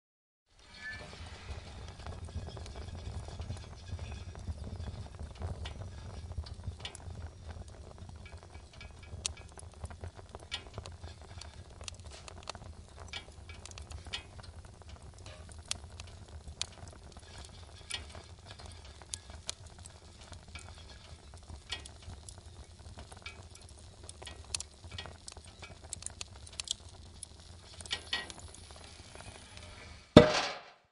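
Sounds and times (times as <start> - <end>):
fire crackling in a stove: 0.5 - 30.9.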